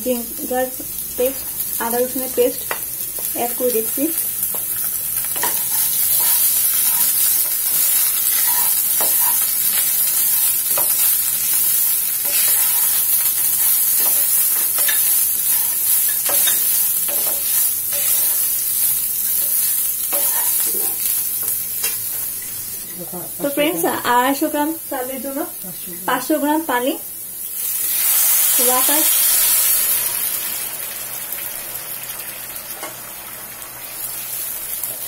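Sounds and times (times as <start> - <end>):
rice sizzling in oil: 0.0 - 35.0.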